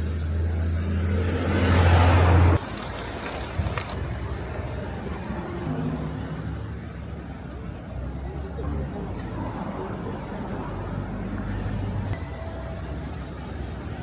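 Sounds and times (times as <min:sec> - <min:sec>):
street ambience: 0:00.0 - 0:14.0
vehicle engine running: 0:00.0 - 0:14.0.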